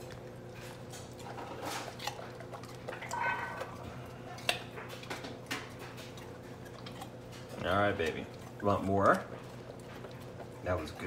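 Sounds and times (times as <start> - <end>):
dog crunching a carrot: 0.0 - 11.0.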